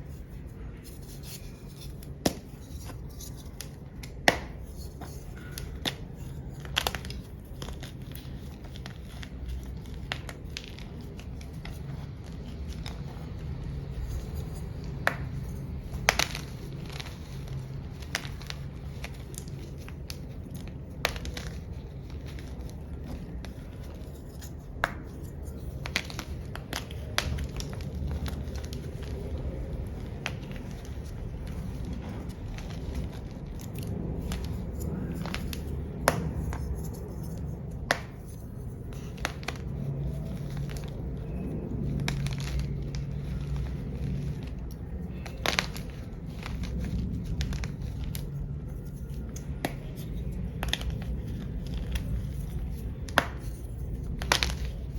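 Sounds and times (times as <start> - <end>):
chalk block cracking and crunching: 0.0 - 54.9
low steady hum: 0.0 - 54.9
soft crumbling and scraping: 0.0 - 54.9.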